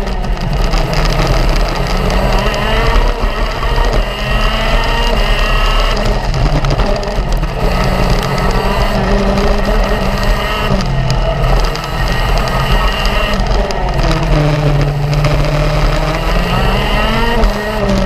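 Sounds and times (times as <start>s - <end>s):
kart engine revving: 0.0s - 18.0s.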